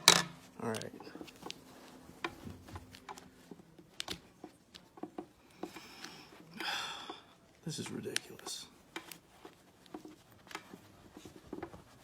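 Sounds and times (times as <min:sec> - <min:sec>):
rustling of plush toy: 0:00.4 - 0:06.5, 0:07.3 - 0:12.0.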